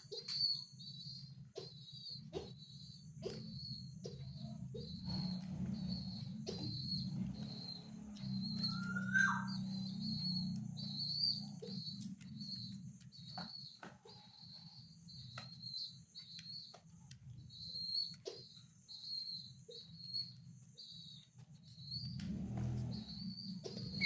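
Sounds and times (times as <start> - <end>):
pigeon squab peeping: 0.0 - 24.0.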